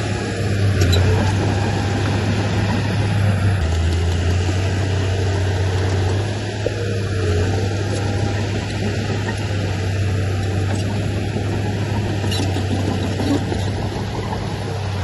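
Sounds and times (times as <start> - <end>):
diesel engine of heavy machinery: 0.0 - 15.0.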